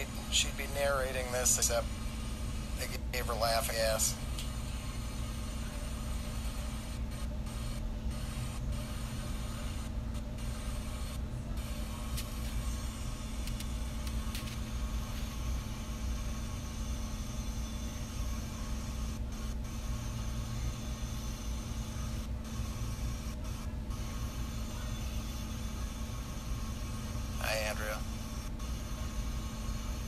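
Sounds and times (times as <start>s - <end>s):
machine hum and rumble: 0.0s - 30.0s.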